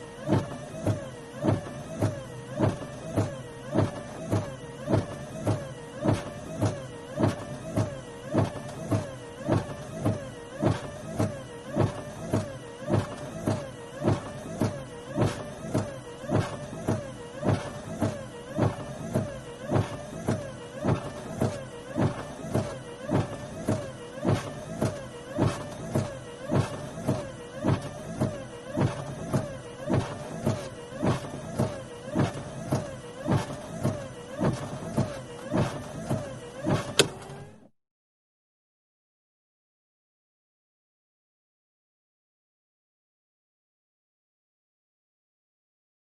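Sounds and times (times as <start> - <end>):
wiper blades thumping: 0.0 - 37.7
wiper motor whine: 0.0 - 37.7.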